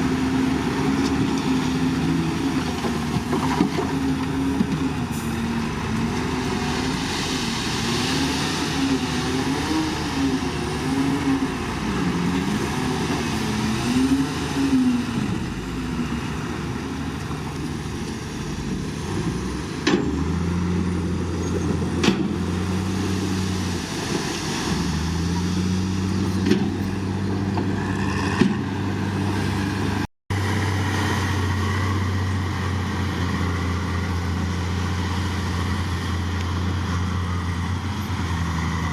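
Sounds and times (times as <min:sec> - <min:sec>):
diesel engines working: 0:00.0 - 0:38.9.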